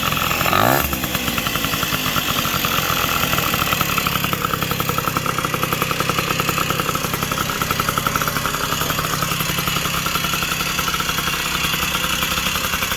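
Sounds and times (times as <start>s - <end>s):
two-stroke moped engine idling: 0.0s - 12.9s.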